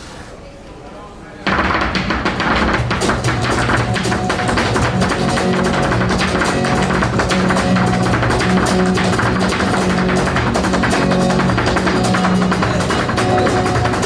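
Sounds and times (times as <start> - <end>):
acoustic guitar playing: 1.5 - 14.0
sharp percussive taps: 1.5 - 14.0.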